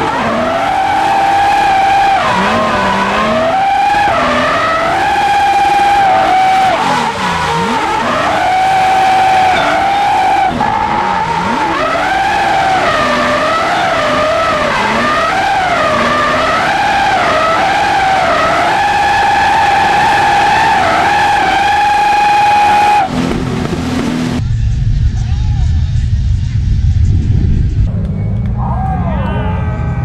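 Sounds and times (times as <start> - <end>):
car engine at high revs: 0.0 - 24.4.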